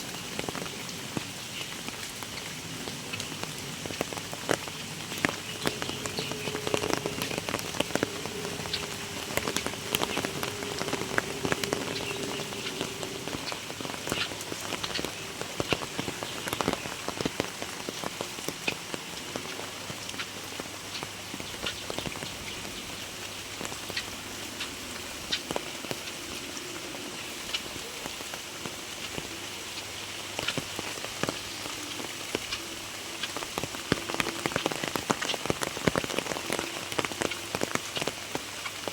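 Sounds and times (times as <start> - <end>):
heavy rain falling: 0.0 - 38.9
raindrops hitting surfaces: 0.0 - 38.9.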